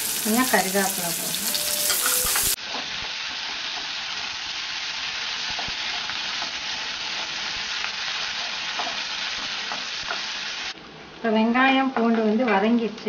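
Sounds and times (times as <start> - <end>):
food sizzling in hot oil: 0.0 - 10.8.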